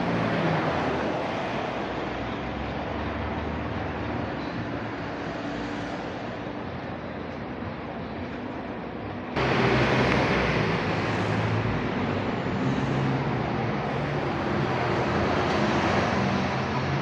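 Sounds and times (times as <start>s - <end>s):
vehicles running past: 0.0s - 17.0s.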